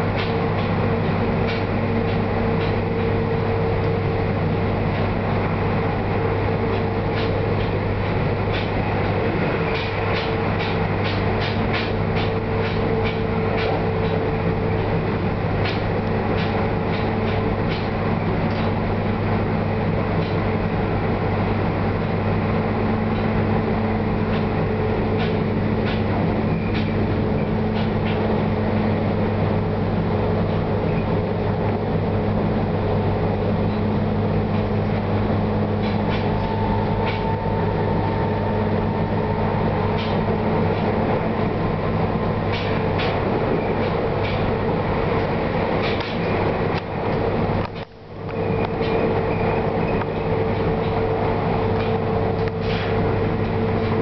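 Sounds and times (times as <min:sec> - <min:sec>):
train rumbling drone: 0:00.0 - 0:54.0.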